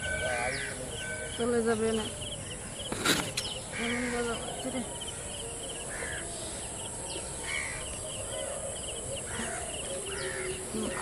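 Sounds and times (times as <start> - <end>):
bird calling: 0.0 - 11.0
high insect drone: 0.0 - 11.0
rapid chirping pulse: 0.0 - 11.0.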